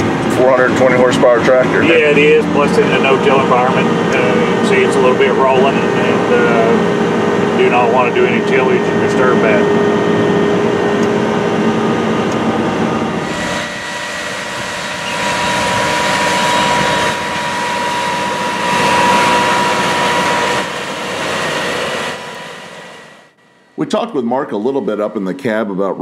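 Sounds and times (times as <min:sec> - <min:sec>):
tractor diesel engine droning: 0:00.0 - 0:25.2
steady high whine: 0:00.0 - 0:26.0.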